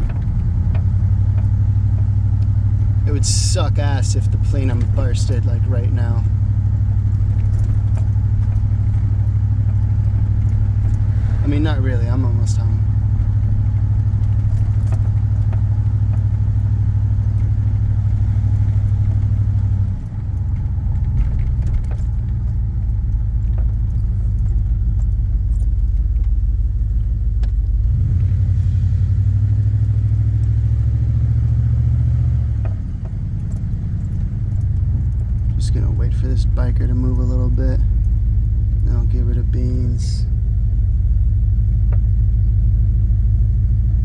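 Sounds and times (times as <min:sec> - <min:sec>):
truck engine droning: 0:00.0 - 0:44.0.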